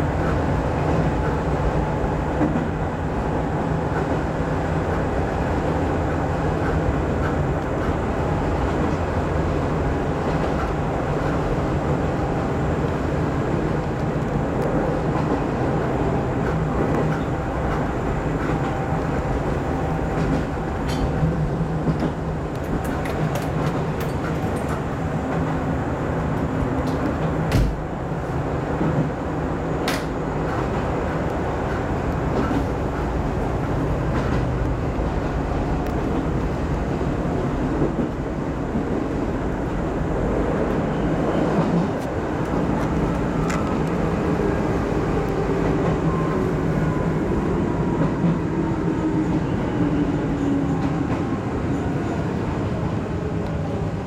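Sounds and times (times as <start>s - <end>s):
electric train hum and rumble: 0.0s - 54.0s.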